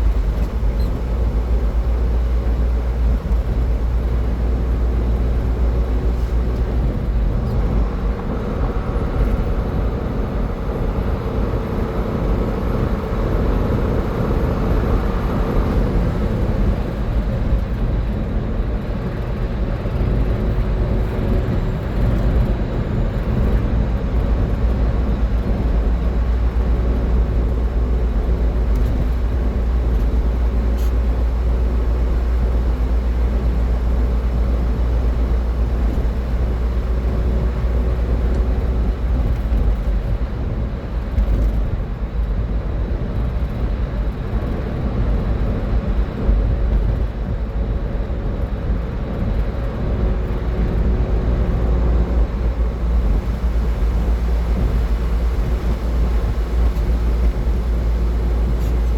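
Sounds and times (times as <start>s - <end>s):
tyre and road noise: 0.0s - 58.9s.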